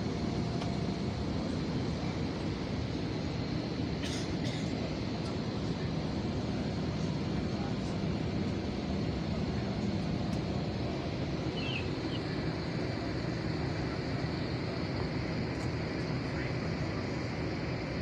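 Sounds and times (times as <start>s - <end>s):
airliner engine rumble in cabin: 0.0s - 18.0s.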